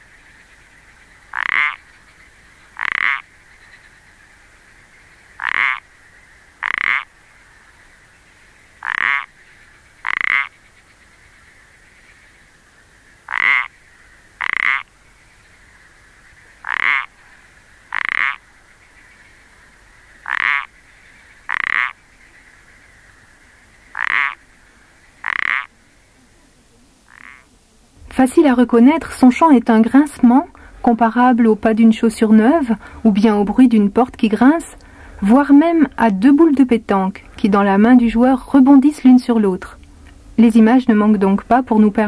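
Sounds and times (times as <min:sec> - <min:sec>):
faint steady hum: 0:00.0 - 0:42.0
frog creaking calls: 0:00.0 - 0:42.0.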